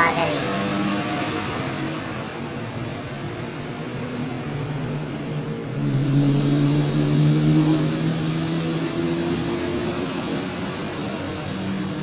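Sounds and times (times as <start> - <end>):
motor vehicle engine running: 1.5 - 12.0.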